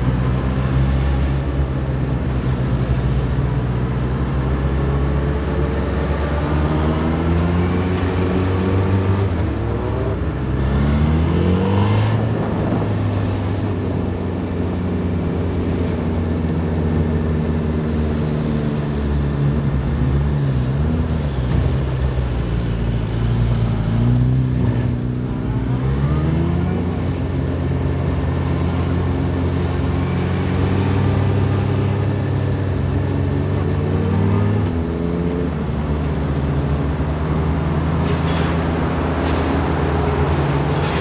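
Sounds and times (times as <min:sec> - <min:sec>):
wind and road noise: 0:00.0 - 0:41.0.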